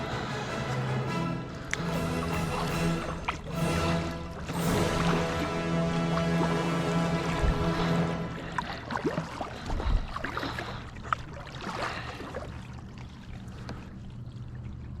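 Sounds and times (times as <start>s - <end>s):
low hum: 0.0s - 15.0s
water lapping around a boat: 0.0s - 15.0s.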